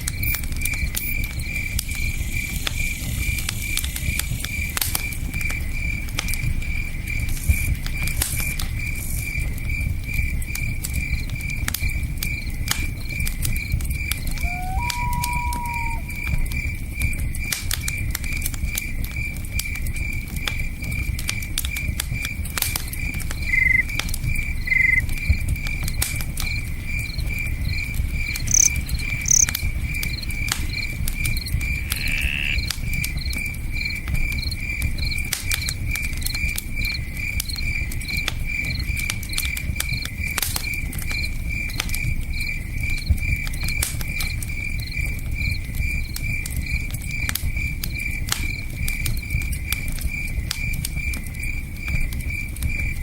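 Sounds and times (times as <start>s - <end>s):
campfire crackling: 0.0s - 53.0s
cricket chirping: 0.0s - 53.0s.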